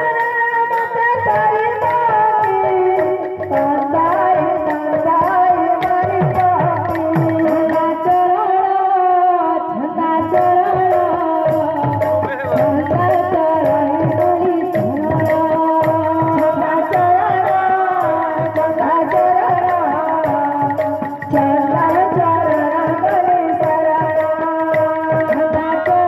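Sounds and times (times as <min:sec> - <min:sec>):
held melody line: 0:00.0 - 0:08.8, 0:10.0 - 0:26.0
barrel drum beating: 0:01.2 - 0:08.2, 0:10.2 - 0:26.0.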